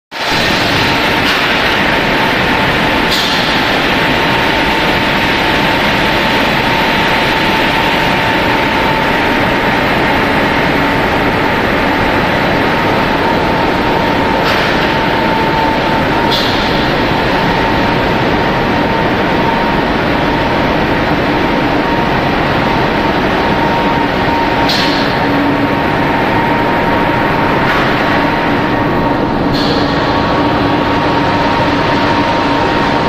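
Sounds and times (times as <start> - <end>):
machinery running with whine: 0.2 - 33.0.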